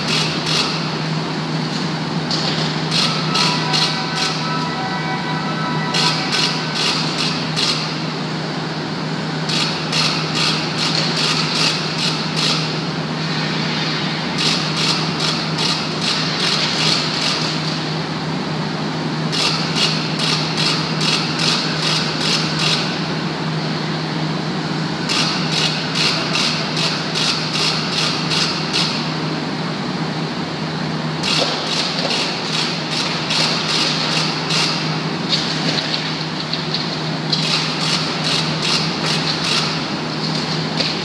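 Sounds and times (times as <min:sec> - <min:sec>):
low machinery hum: 0:00.0 - 0:41.0.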